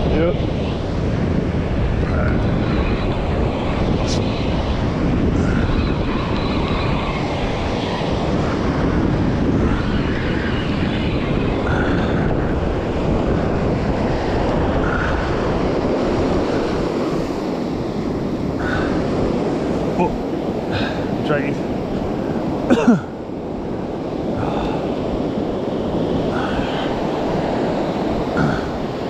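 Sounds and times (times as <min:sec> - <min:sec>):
surf washing on beach: 0:00.0 - 0:29.0
wind rumbling on microphone: 0:00.0 - 0:29.0.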